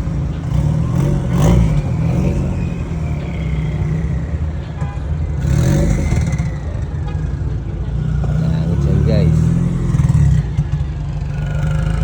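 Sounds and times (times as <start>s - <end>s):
car engine revving: 0.0s - 12.0s
other car engines running: 0.0s - 12.0s.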